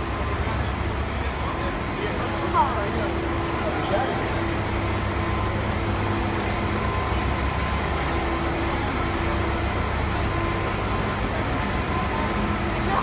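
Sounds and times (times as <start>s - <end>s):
diesel engines idling: 0.0s - 13.0s.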